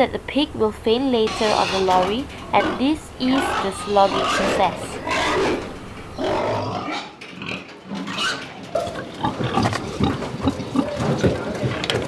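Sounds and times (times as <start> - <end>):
pig squealing and grunting: 1.3 - 11.2.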